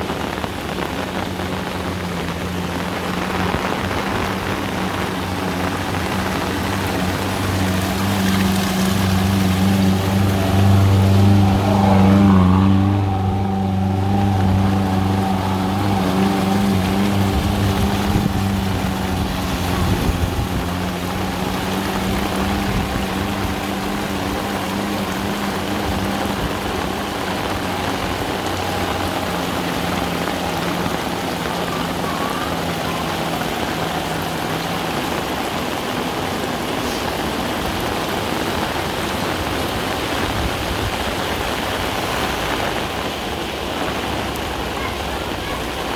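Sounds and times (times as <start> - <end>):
engine humming: 0.0 - 45.9
heavy rain falling: 0.0 - 45.9.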